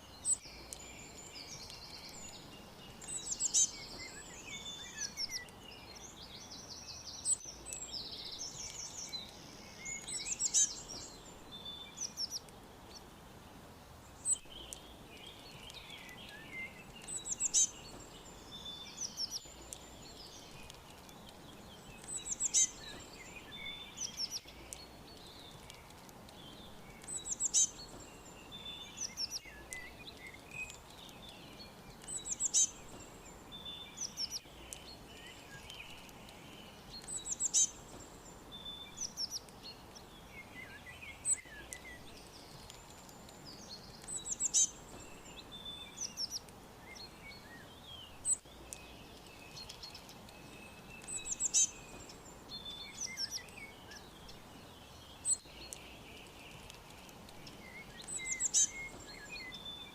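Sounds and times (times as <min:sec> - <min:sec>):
bird song of descending notes: 0:00.0 - 0:59.9
faint steady hiss: 0:00.0 - 0:59.9
songbirds chirping and singing: 0:00.0 - 0:59.9.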